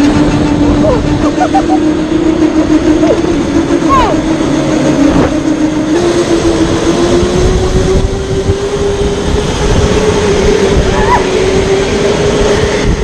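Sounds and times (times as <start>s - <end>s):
electric go-kart motor whining: 0.0s - 13.0s
wind rumble on microphone: 0.0s - 13.0s.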